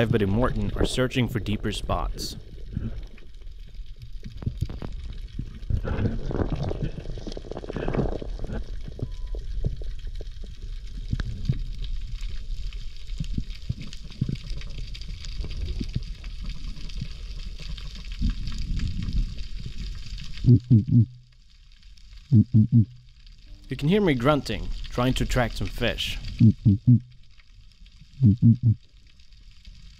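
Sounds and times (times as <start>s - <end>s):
underwater clicks and crackles: 0.0s - 29.9s
underwater rumble of moving water: 0.0s - 29.9s.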